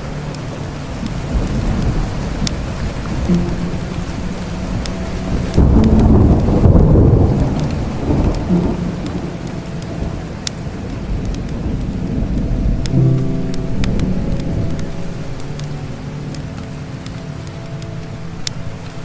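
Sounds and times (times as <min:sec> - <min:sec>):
low rumble of thunder: 0:00.0 - 0:19.0
steady rain: 0:00.0 - 0:19.0
wood fire crackling: 0:00.0 - 0:19.0.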